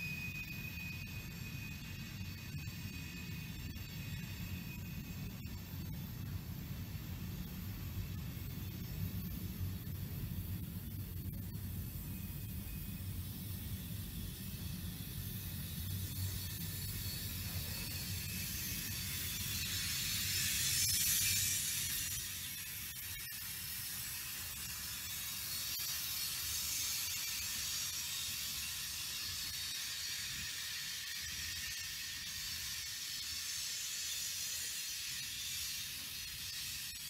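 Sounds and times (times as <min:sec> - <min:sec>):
steel wheels hissing on rails: 0:00.0 - 0:37.0.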